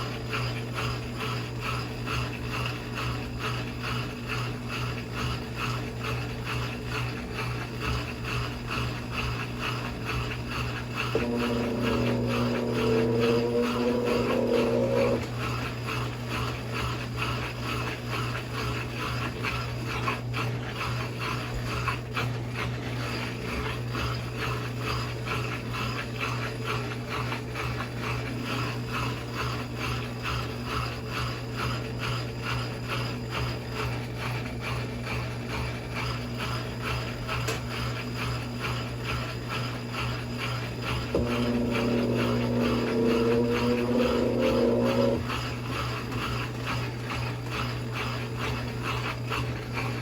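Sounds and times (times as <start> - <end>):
washing machine motor pulsing: 0.0 - 50.0.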